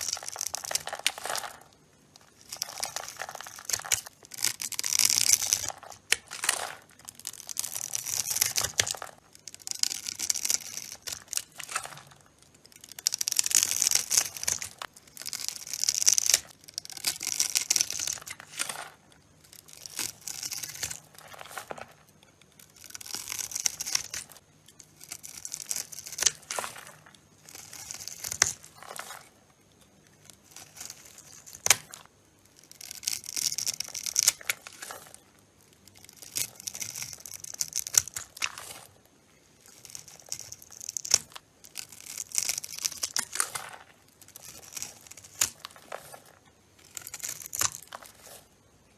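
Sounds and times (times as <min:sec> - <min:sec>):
blade cutting through soap: 0:02.3 - 0:29.4, 0:30.2 - 0:39.0, 0:39.6 - 0:48.5.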